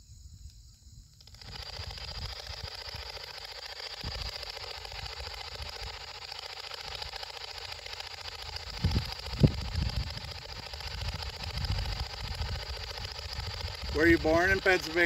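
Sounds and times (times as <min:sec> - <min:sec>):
radio static hiss: 0:01.4 - 0:15.0.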